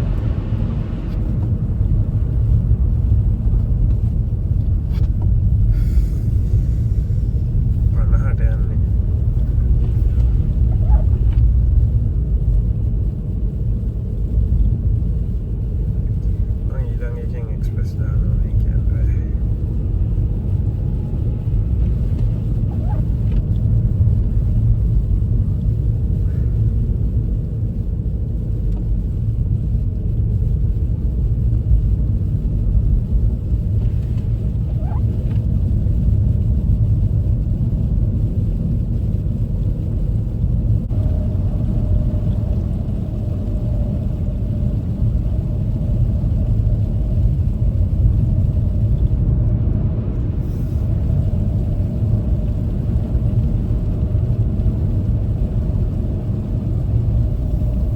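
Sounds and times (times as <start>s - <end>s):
car driving on snowy road: 0.0s - 57.9s.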